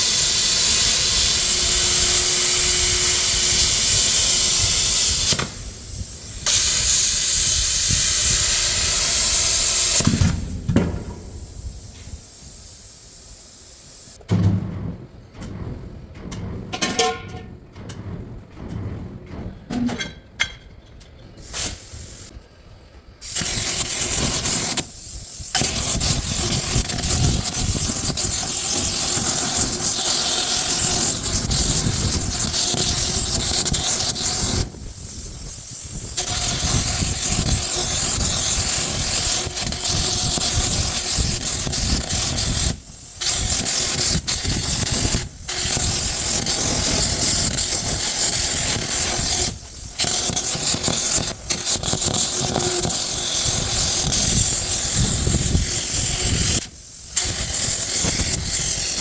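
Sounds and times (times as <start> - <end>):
loud hissing rush of gas: 0.0 - 14.2, 21.4 - 22.5, 23.2 - 59.0.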